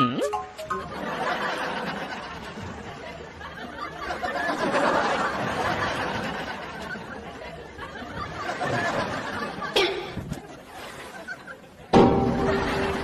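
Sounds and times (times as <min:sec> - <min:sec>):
people laughing and chattering: 0:00.2 - 0:13.0.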